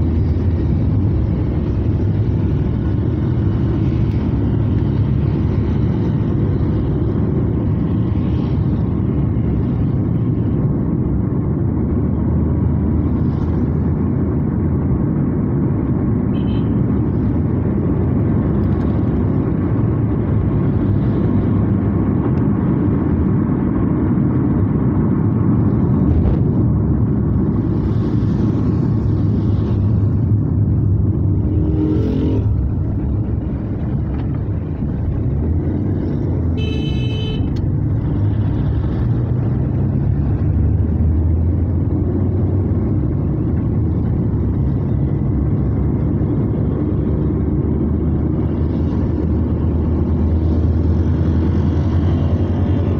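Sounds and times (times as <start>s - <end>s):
engine and tyre rumble: 0.0s - 52.9s.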